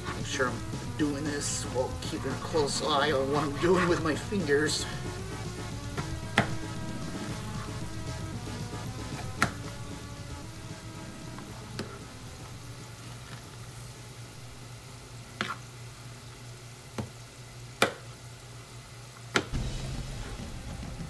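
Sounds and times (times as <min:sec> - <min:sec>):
frying oil sizzling: 0:00.0 - 0:21.0.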